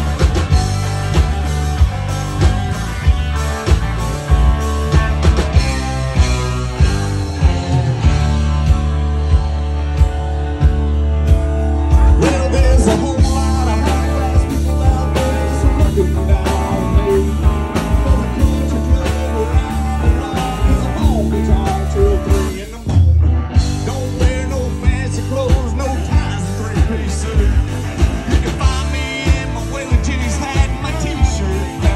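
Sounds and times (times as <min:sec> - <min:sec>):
country-rock band playing: 0:00.0 - 0:31.9.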